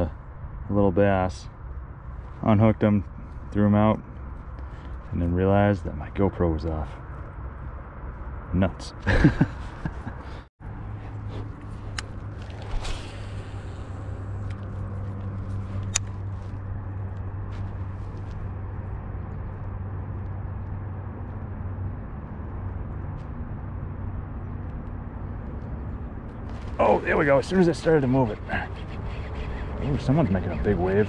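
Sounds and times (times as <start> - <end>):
low motor hum: 0.0 - 31.0.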